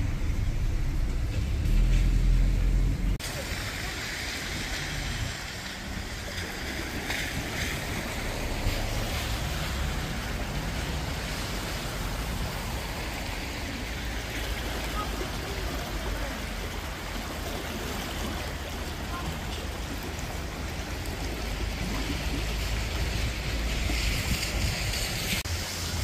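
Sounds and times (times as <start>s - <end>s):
fast water rushing: 0.0s - 26.0s.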